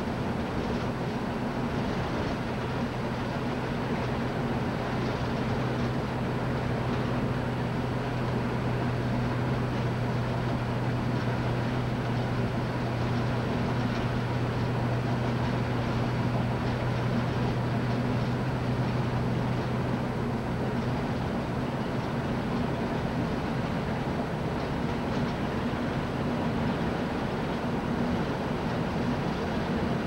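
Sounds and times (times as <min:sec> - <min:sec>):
car engine and tyre noise: 0:00.0 - 0:30.0.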